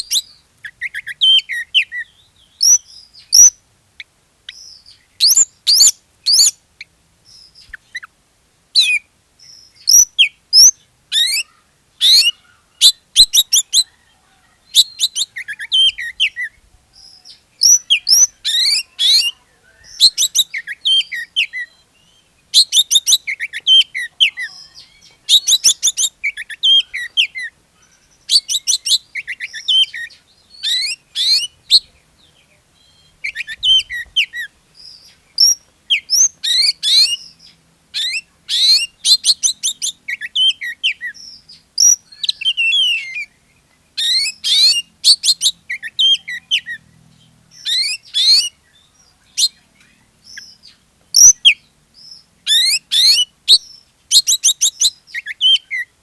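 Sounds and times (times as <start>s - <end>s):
bird chattering: 0.0s - 3.6s, 4.5s - 6.9s, 9.8s - 16.5s, 17.2s - 32.4s, 33.0s - 43.3s, 47.6s - 51.7s, 52.5s - 55.9s
bird singing whistled notes: 0.0s - 3.6s, 4.5s - 6.6s, 7.2s - 8.1s, 8.8s - 55.9s.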